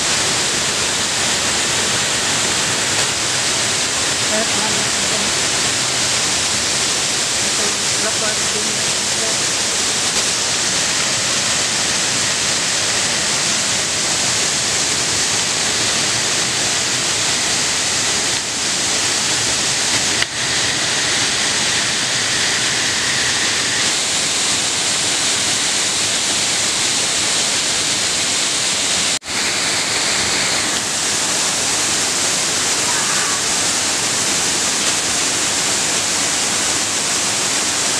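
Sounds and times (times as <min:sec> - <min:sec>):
waterfall pouring onto rocks: 0:00.0 - 0:37.9.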